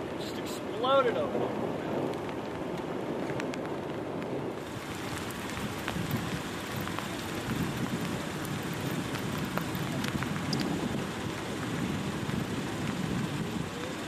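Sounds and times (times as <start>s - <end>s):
rain falling: 0.0s - 14.0s
raindrops ticking: 0.0s - 14.0s
low thunder rumble: 1.2s - 14.0s.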